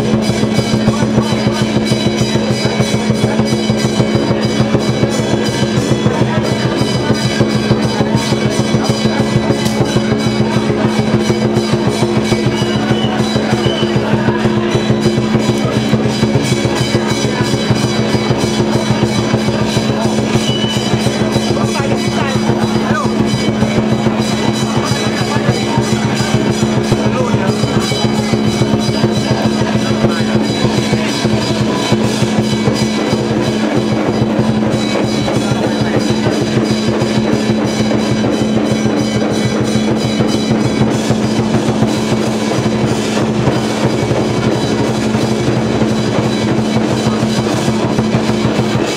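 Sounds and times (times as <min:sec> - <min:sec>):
rapid drumming: 0:00.0 - 0:48.9.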